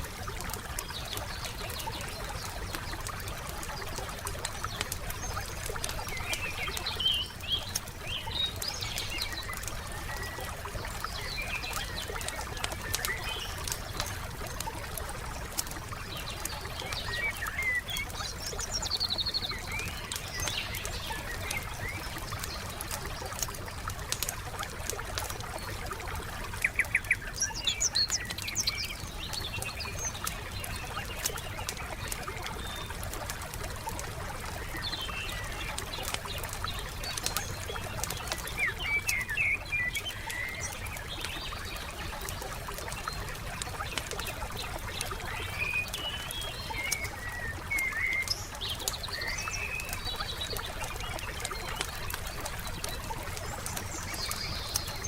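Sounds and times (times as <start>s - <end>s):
songbirds chirping: 0.0s - 55.0s
wood fire crackling and popping: 0.0s - 55.0s.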